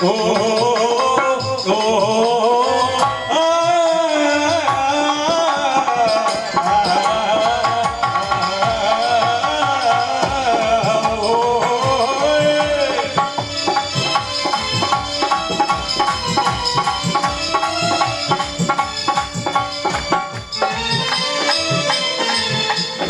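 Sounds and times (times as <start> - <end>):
hand drum beating rhythm: 0.0 - 23.0
held instrumental tones: 0.0 - 23.0.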